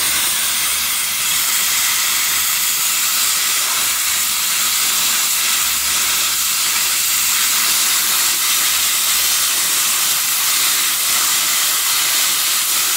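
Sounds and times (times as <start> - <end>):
pressure washer jets hissing: 0.0 - 12.9.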